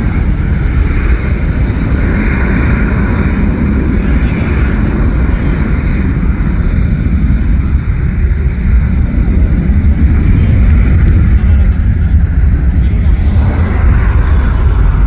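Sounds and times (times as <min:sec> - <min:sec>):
jet engine roar: 0:00.0 - 0:07.2, 0:07.8 - 0:15.0.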